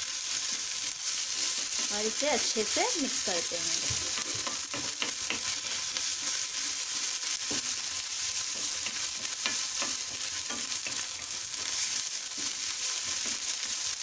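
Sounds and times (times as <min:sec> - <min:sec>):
onions sizzling in oil: 0:00.0 - 0:14.0
spatula scraping pan: 0:00.5 - 0:14.0.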